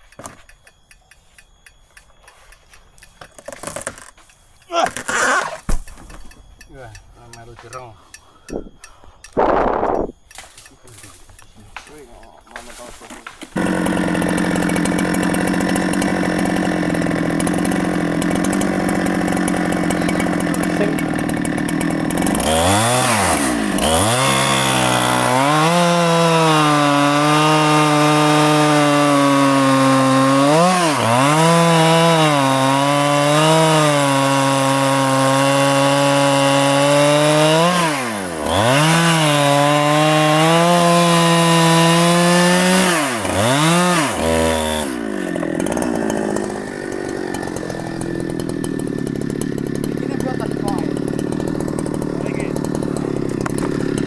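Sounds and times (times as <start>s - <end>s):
chainsaw cutting wood: 2.5s - 7.9s, 9.3s - 54.0s.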